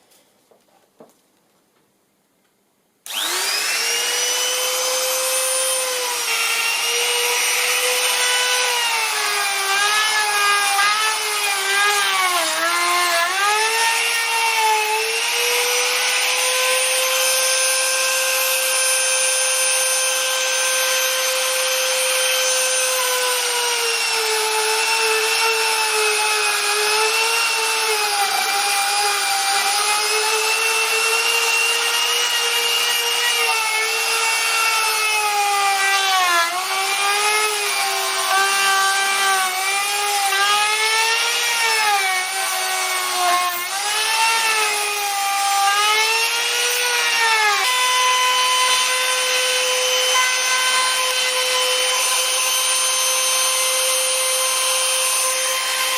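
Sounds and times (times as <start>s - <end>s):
router cutting wood: 3.0s - 55.9s
electric router whining: 3.1s - 55.9s.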